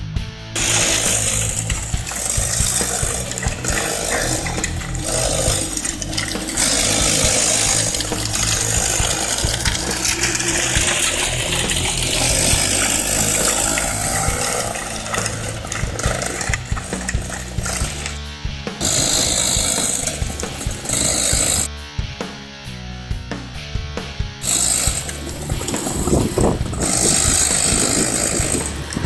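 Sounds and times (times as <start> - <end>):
go-kart engine running: 0.6 - 21.7, 24.4 - 29.0.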